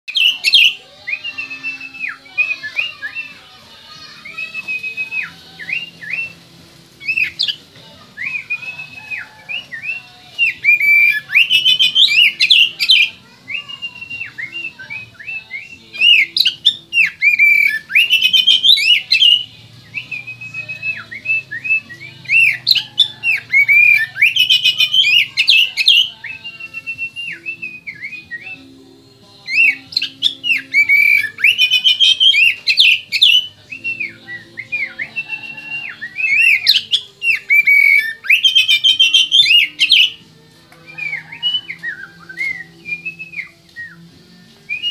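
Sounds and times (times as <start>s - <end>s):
bird whistled song: 0.1s - 44.9s.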